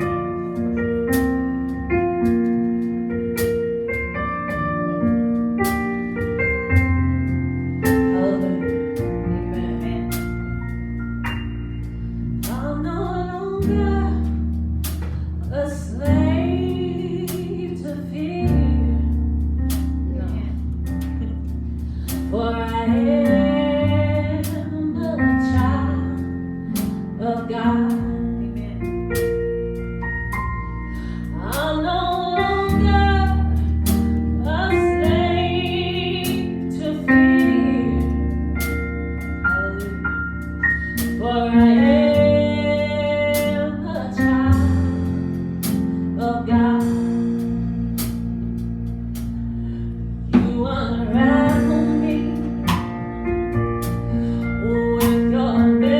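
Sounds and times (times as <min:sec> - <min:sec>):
gospel worship song: 0:05.5 - 0:11.0, 0:11.6 - 0:29.3, 0:30.4 - 0:55.9.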